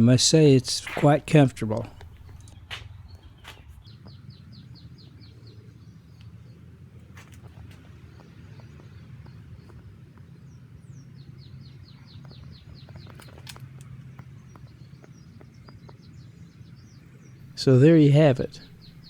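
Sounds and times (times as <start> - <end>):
low background hum: 0.0 - 19.0
songbirds singing: 0.0 - 19.0.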